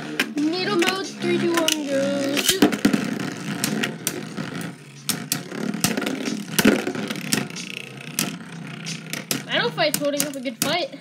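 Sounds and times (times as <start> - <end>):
spinning tops whirring and scraping: 0.0 - 11.0
spinning tops clicking together: 0.1 - 10.8.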